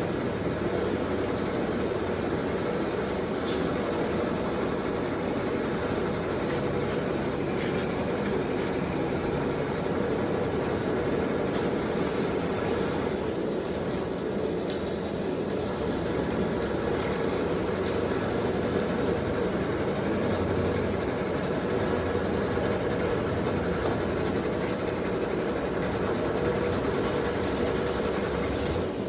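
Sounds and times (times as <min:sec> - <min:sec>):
mechanical rumble and rattle: 0:00.0 - 0:29.0.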